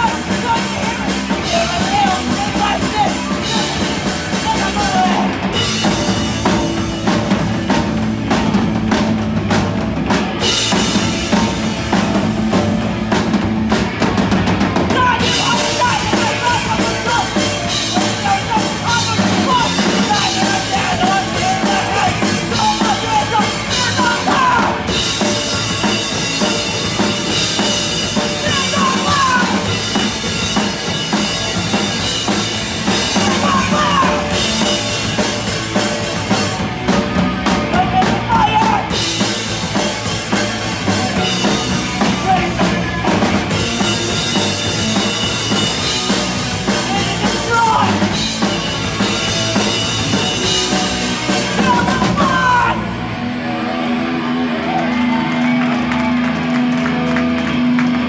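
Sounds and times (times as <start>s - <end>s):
drum kit: 0.0s - 58.0s
live rock band playing: 0.0s - 58.0s.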